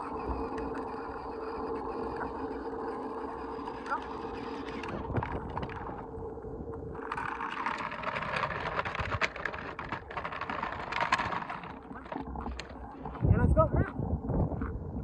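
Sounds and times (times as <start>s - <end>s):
plastic wheels rolling on asphalt: 0.0s - 15.0s.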